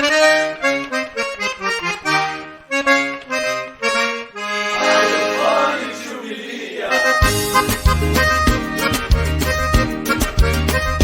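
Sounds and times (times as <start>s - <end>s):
button accordion dance music: 0.0s - 11.0s.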